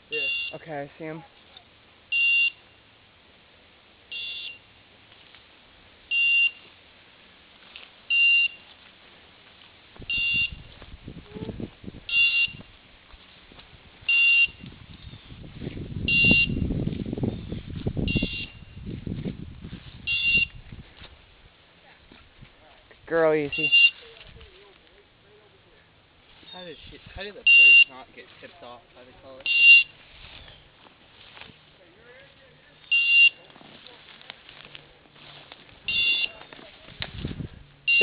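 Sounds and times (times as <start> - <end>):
rustling through brush: 0.0 - 38.0
footsteps through brush: 4.6 - 37.8.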